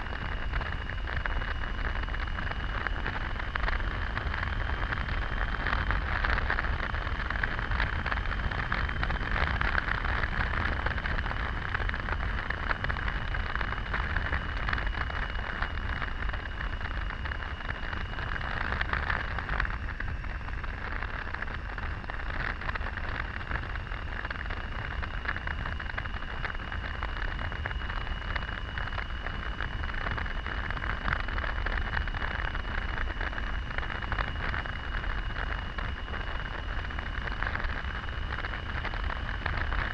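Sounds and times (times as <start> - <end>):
thin high whine: 0.0 - 39.9
wind rush over microphone: 0.0 - 39.9.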